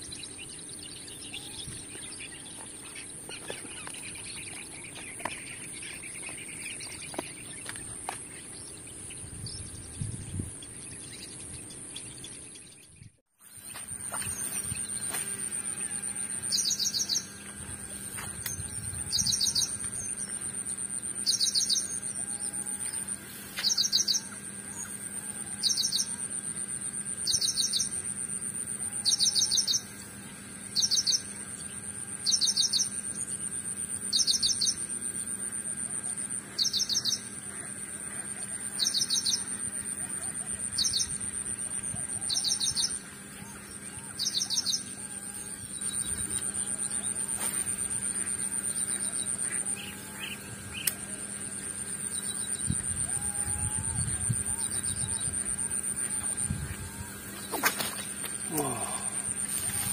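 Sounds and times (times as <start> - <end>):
steady high-pitched whine: 0.0 - 59.9.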